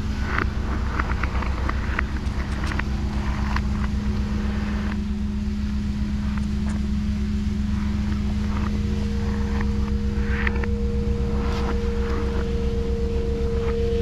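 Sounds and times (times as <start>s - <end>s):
ambient drone music: 0.0s - 14.0s
faint clicks and crackles: 0.0s - 14.0s
sustained higher tone: 0.0s - 14.0s
throbbing bass pulse: 0.0s - 14.0s.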